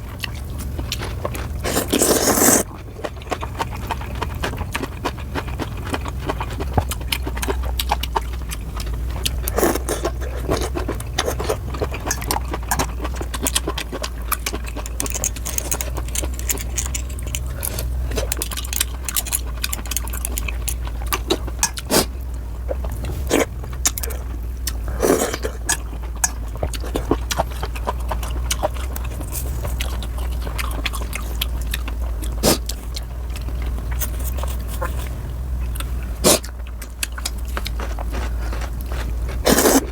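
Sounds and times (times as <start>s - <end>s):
chewing noodles: 0.0s - 39.9s
steady low hum: 0.0s - 39.9s.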